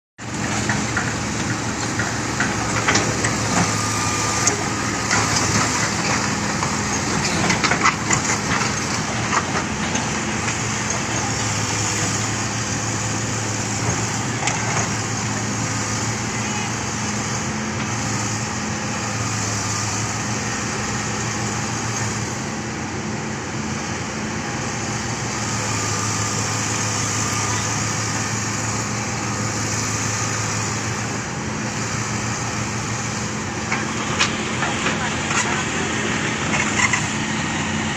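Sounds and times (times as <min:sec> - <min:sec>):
excavator diesel engine running: 0:00.2 - 0:37.9.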